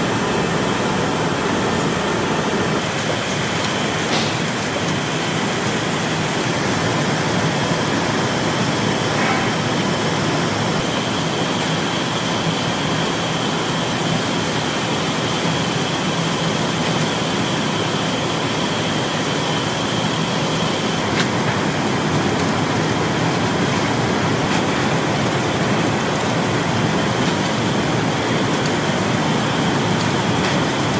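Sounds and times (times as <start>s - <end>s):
factory machinery din: 0.0s - 30.9s.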